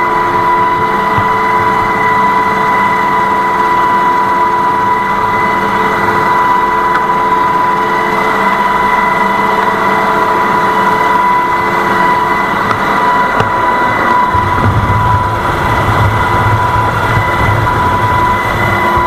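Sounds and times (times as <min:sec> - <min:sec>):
boat engine running: 0:00.0 - 0:19.0
high whine: 0:00.0 - 0:19.0.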